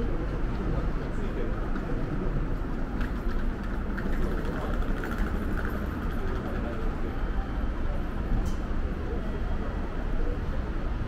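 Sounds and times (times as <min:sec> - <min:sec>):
low rumble of railway station: 0:00.0 - 0:11.0.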